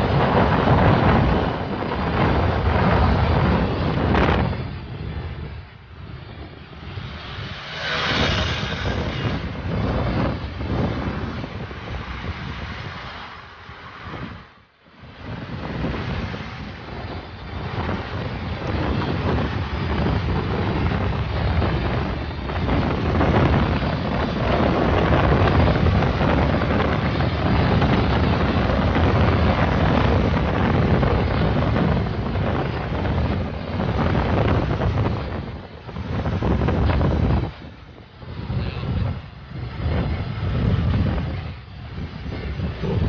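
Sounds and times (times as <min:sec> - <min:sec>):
road traffic rumble: 0:00.0 - 0:43.0
wind buffeting microphone: 0:00.0 - 0:43.0.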